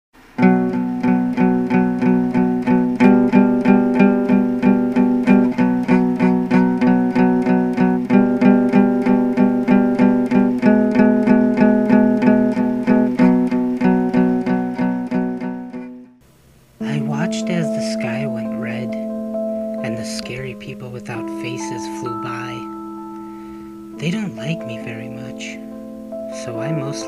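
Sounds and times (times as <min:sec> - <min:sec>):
picked guitar pattern: 0:00.4 - 0:16.2, 0:16.8 - 0:27.0.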